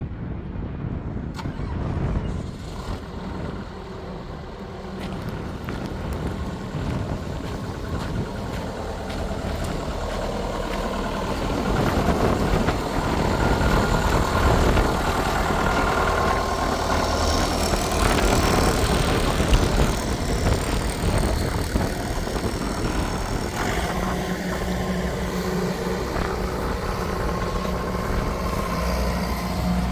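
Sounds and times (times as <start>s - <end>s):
excavator diesel engine running: 1.3s - 29.9s.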